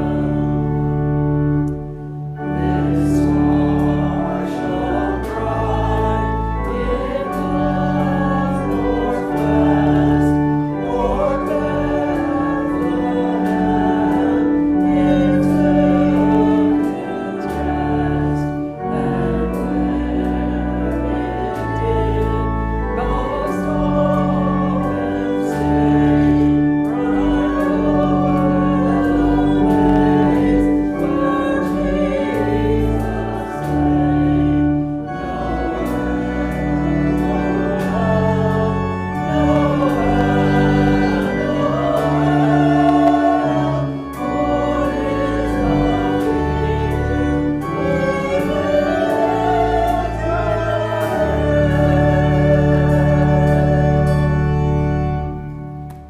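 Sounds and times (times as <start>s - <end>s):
organ chords: 0.0s - 56.0s
voices singing a hymn: 0.0s - 56.0s.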